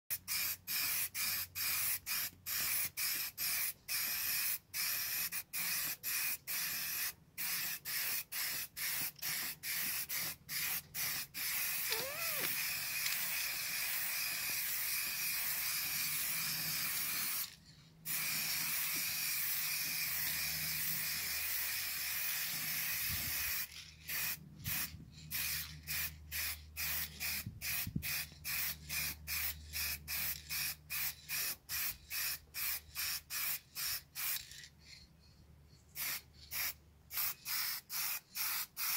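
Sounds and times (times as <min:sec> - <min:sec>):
spray paint can hissing: 0:00.1 - 0:35.0, 0:35.9 - 0:38.9.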